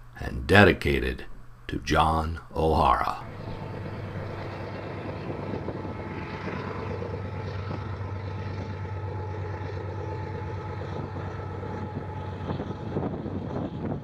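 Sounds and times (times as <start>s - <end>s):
distant locomotive engine drone: 2.6s - 14.0s.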